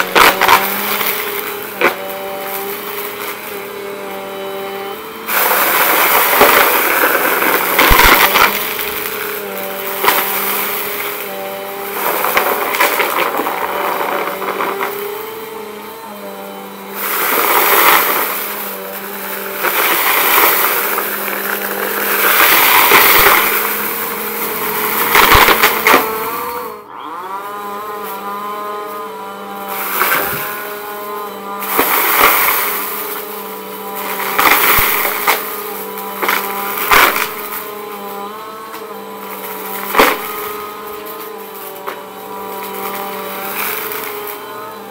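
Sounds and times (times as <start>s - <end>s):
debris crunching and rattling: 0.0s - 26.8s, 27.4s - 44.9s
vacuum cleaner motor humming: 0.0s - 44.9s.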